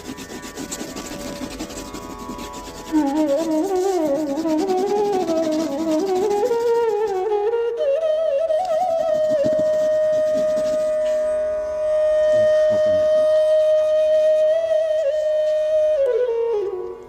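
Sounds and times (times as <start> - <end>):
instrumental music with sliding melody: 0.0 - 17.0.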